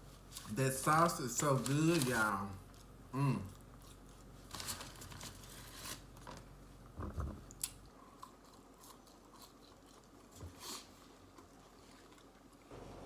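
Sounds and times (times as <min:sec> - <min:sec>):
chewing and crunching: 0:00.3 - 0:06.4, 0:07.4 - 0:12.8.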